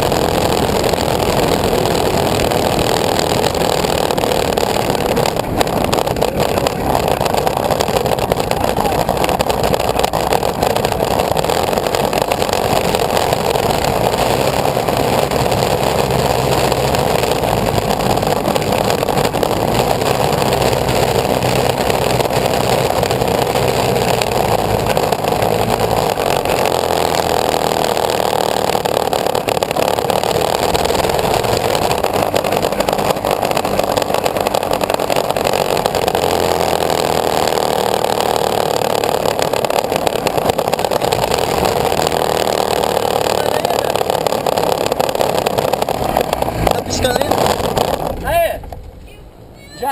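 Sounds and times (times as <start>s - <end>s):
loud engine running: 0.0s - 49.0s.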